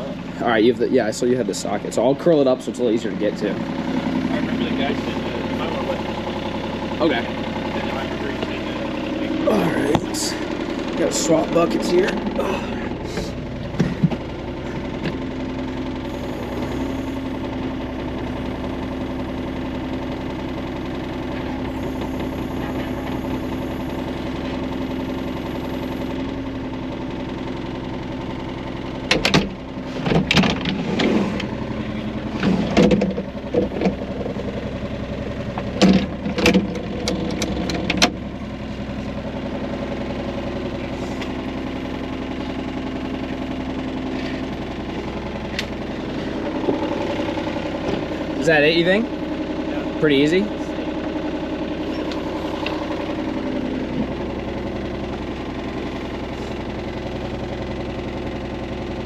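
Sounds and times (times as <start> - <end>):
skid loader engine idling: 0.0 - 59.0.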